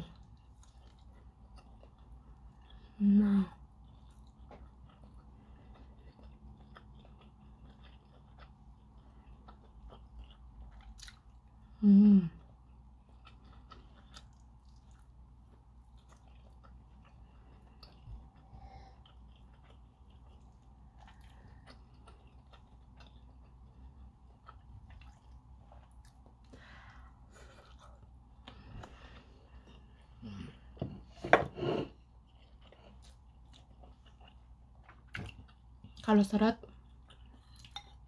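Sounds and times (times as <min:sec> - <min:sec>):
faint steady hum: 0:00.0 - 0:38.0
person chewing and eating: 0:00.0 - 0:38.0.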